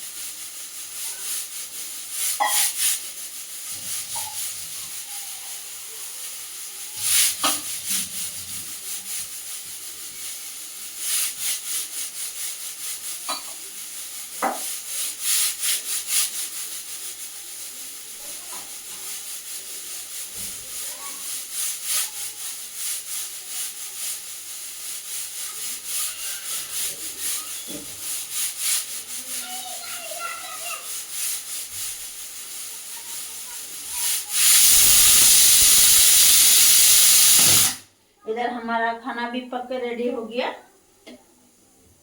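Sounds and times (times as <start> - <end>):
batter being mixed in a bowl: 0.0 - 37.8
faint steady hiss: 0.0 - 42.0.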